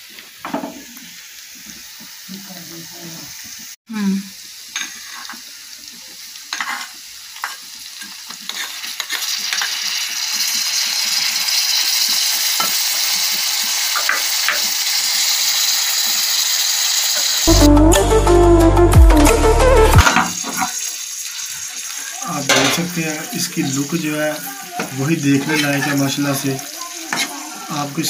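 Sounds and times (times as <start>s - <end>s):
food sizzling in pan: 0.0s - 17.9s, 20.0s - 28.0s.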